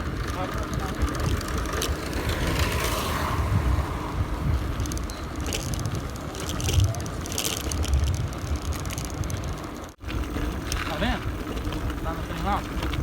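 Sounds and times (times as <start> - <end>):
bicycle rattling on bumps: 0.0 - 13.0
wind buffeting microphone: 0.0 - 13.0.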